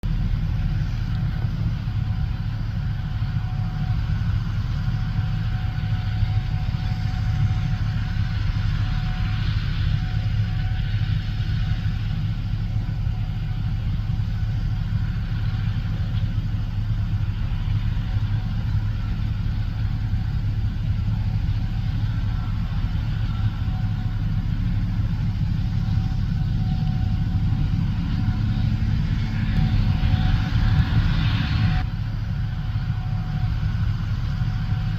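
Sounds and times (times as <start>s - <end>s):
combine harvester deep drone: 0.0s - 34.9s
faint steady whine: 0.0s - 34.9s.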